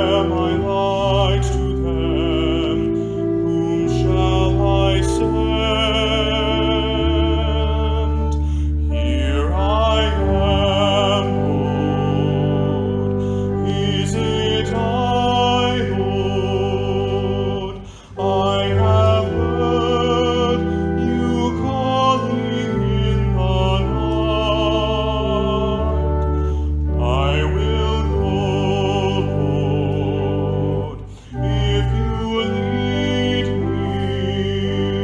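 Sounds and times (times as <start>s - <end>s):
vibrato melody over low chords: 0.0s - 35.0s.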